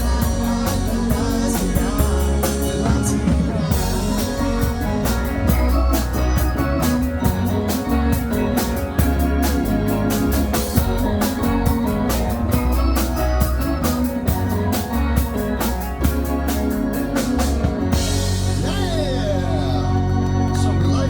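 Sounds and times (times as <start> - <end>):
bass line: 0.0 - 21.0
drums keeping steady beat: 0.0 - 21.0
organ-sounding keyboard: 0.0 - 21.0
rock band playing: 0.0 - 21.0.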